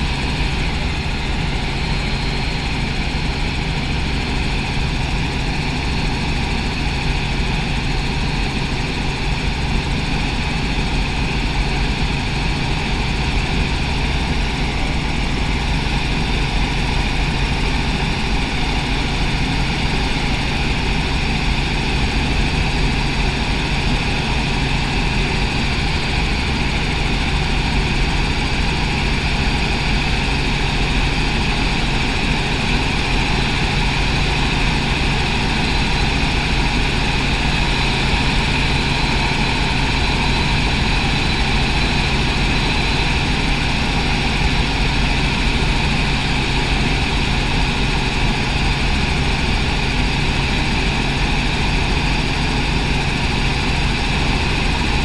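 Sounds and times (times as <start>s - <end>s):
helicopter engine and rotors: 0.0s - 55.0s
steady high whine: 0.0s - 55.0s.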